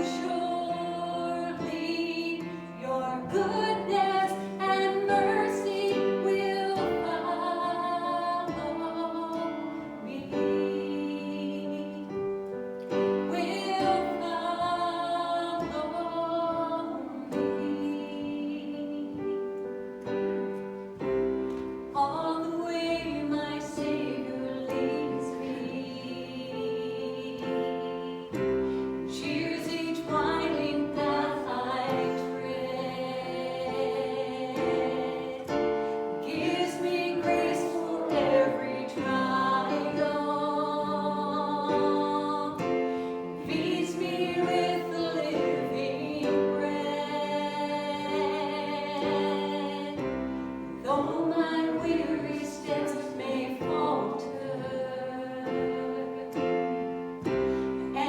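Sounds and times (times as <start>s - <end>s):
people singing worship: 0.0s - 19.4s, 22.0s - 58.0s.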